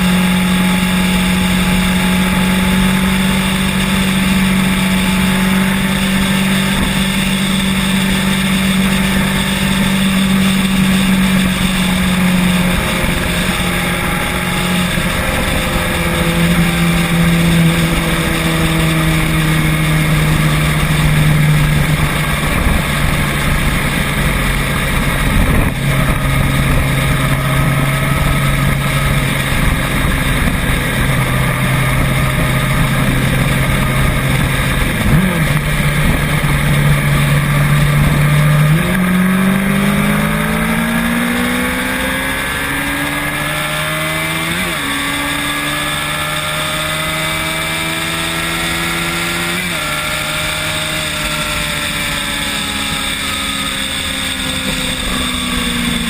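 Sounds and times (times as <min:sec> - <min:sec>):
road noise: 0:00.0 - 0:56.0
vehicle engine changing gears: 0:00.0 - 0:56.0.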